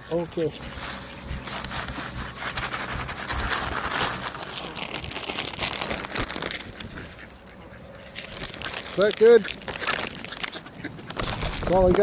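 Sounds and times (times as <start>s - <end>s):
bag of bird feed crinkling: 0.1s - 7.4s, 8.0s - 12.0s.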